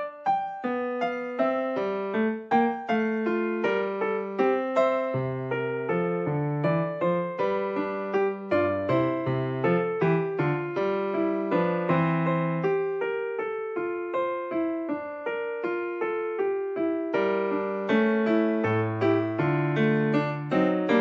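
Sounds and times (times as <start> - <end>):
classical piano music: 0.0 - 21.0.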